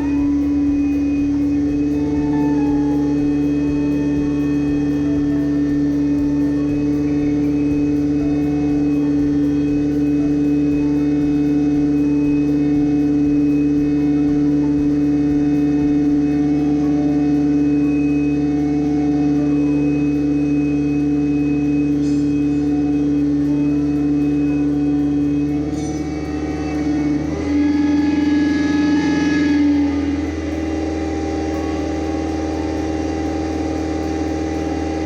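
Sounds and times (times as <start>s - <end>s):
engine running under load: 0.0s - 35.0s
machinery hum: 0.0s - 35.0s.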